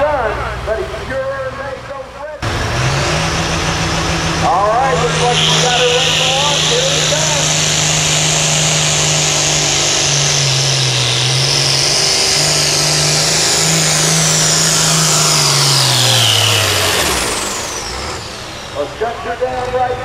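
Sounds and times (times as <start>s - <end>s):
tractor diesel engine under load: 0.0s - 20.0s
turbo whine: 2.4s - 20.0s.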